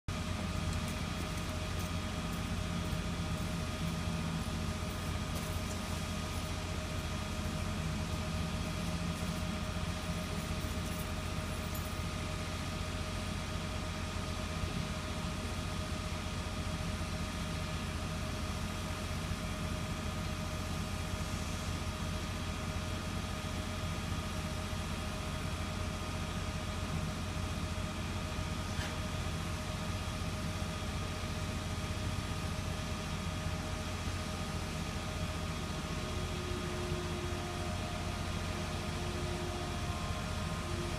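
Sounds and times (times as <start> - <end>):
diesel locomotive idling: 0.1 - 40.9.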